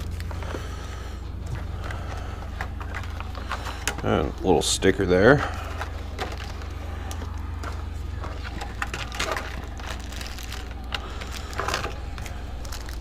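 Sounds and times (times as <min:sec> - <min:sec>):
plastic packaging crackling: 0:00.0 - 0:01.0, 0:01.7 - 0:13.0.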